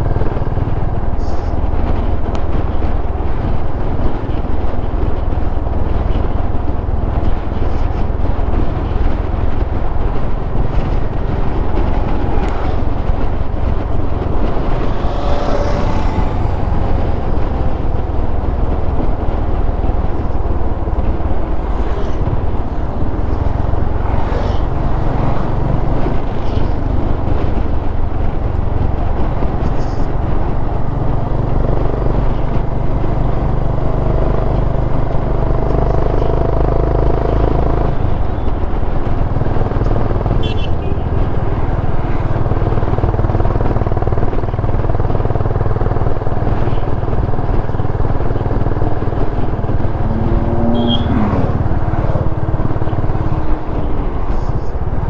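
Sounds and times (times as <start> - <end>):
wind rumble on microphone: 0.0 - 55.0
motorcycle engine running: 6.1 - 55.0.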